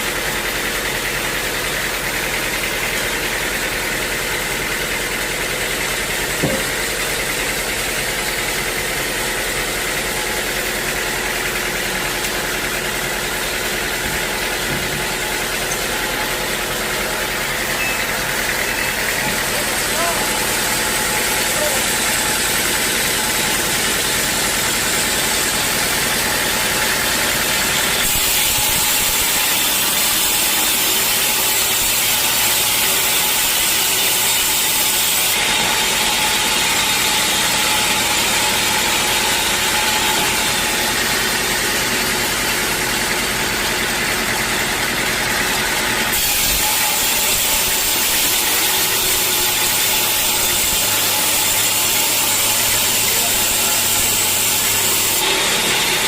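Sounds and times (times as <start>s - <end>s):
sawmill machinery din: 0.0s - 56.0s.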